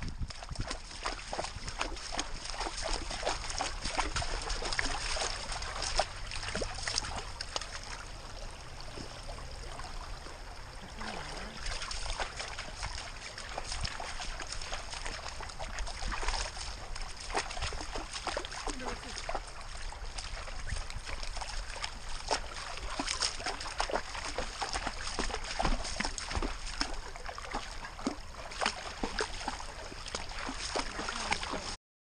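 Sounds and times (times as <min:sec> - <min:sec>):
water trickling: 0:00.0 - 0:31.8.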